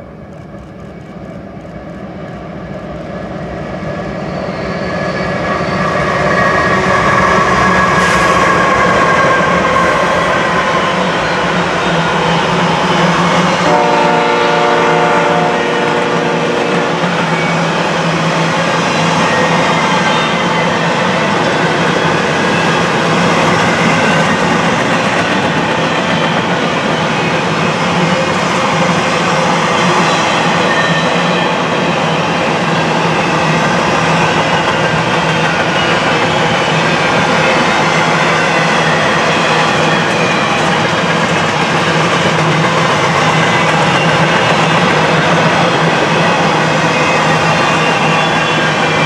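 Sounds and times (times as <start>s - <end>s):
freight train rolling past: 0.0s - 49.0s.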